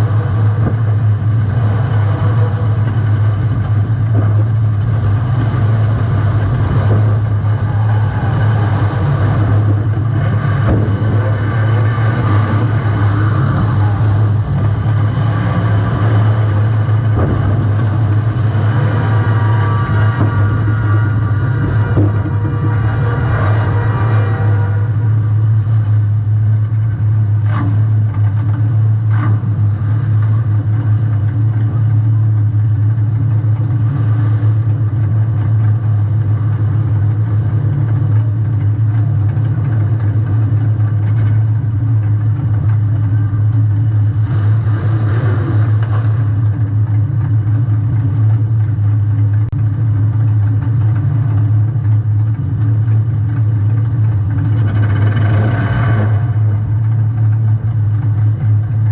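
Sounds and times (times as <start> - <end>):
car engine running: 0.0 - 58.9.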